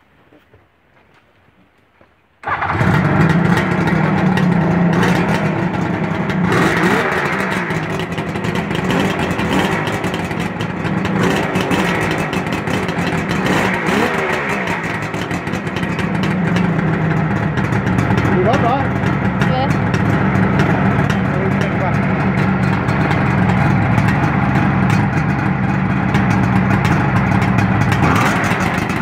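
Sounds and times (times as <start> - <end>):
two-stroke motorcycle engine running: 2.4 - 29.0.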